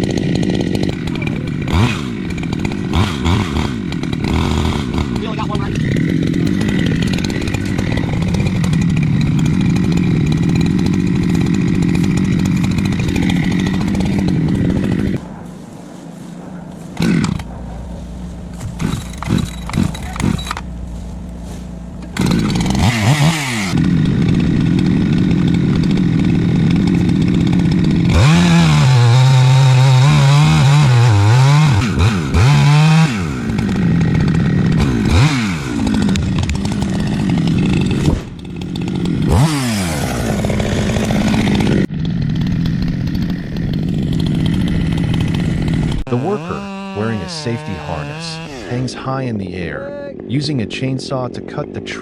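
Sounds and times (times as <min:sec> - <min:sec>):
chainsaw cutting wood: 0:00.0 - 0:15.2, 0:16.7 - 0:52.0.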